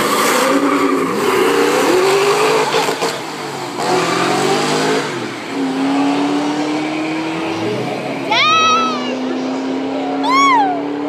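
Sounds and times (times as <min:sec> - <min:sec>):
engines accelerating hard: 0:00.0 - 0:11.0.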